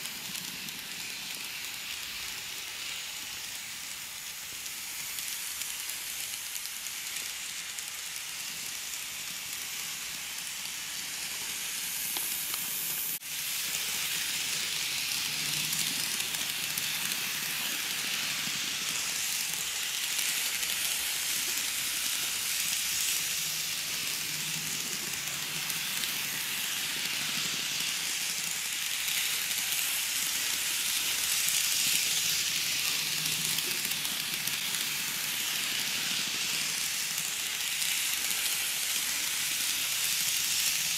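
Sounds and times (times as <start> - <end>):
model train running on track: 0.0 - 40.9.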